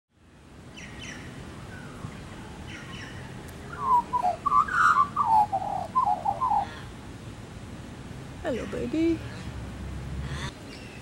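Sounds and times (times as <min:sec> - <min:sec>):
birds chirping: 0:00.7 - 0:07.4, 0:08.4 - 0:11.0.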